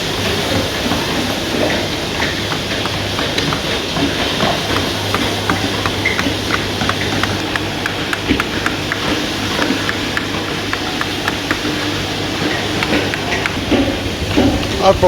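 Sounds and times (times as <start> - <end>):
mallets striking chisels on wood: 1.1 - 14.6.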